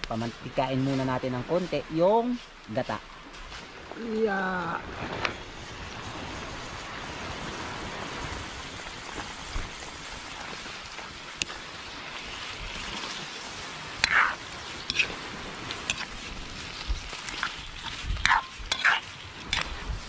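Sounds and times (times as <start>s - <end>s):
coconut milk bubbling sizzle: 0.0s - 20.0s.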